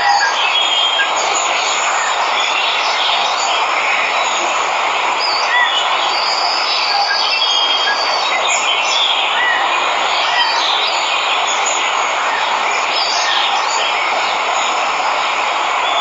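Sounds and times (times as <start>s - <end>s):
birds chirping: 0.0s - 16.0s
waterfall rushing: 0.0s - 16.0s.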